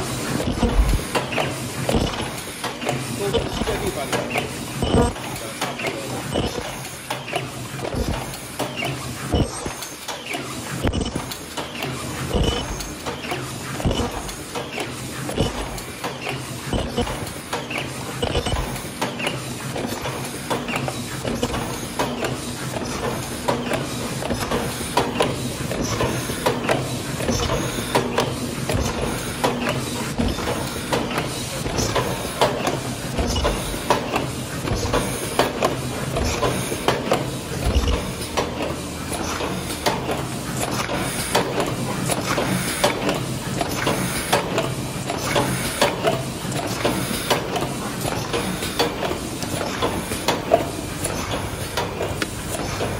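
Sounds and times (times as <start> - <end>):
machine mechanism clacking: 0.0 - 52.9.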